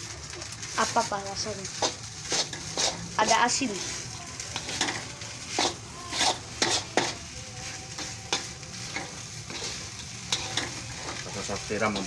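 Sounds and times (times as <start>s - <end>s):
rice sizzling in a wok: 0.0s - 12.0s
metal spatula scraping a pan: 0.5s - 12.0s.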